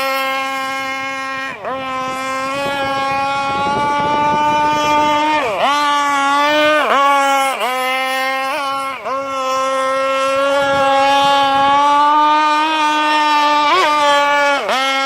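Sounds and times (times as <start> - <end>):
two-stroke boat engine at high revs: 0.0 - 15.0.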